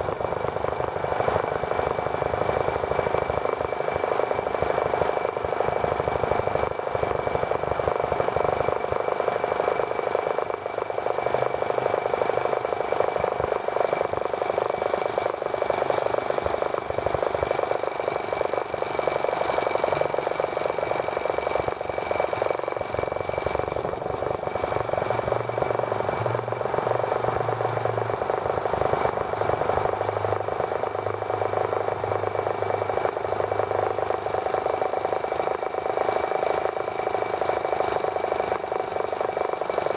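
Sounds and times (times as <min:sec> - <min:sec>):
model engine buzzing with whine: 0:00.0 - 0:39.9.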